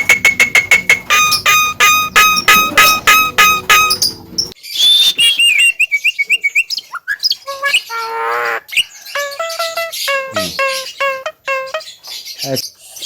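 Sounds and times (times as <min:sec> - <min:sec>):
bird chirping and whistling: 0:00.0 - 0:12.3.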